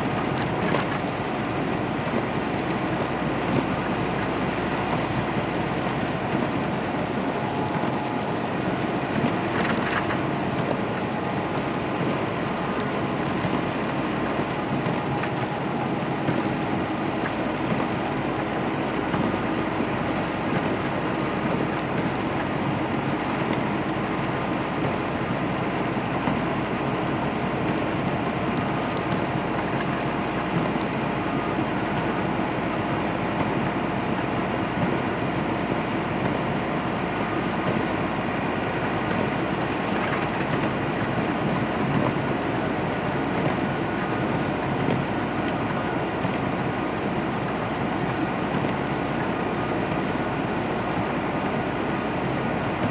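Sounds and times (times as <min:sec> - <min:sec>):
truck engine drone: 0:00.0 - 0:52.9.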